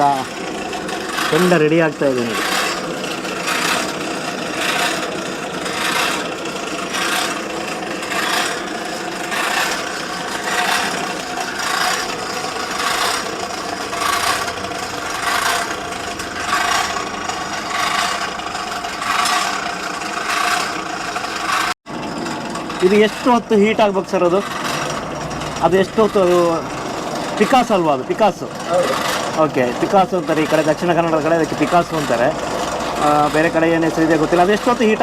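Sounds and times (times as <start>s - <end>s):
hand air pump rasping: 0.0s - 35.0s.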